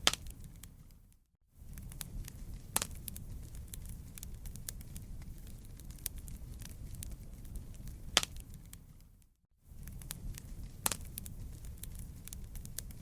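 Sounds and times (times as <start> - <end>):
burning wood crackling: 0.0 - 13.0
low rumble of flames: 0.0 - 13.0.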